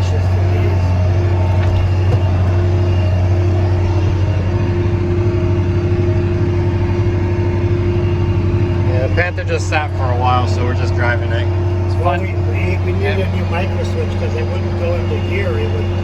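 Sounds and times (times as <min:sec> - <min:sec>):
tractor diesel engine drone: 0:00.0 - 0:16.0.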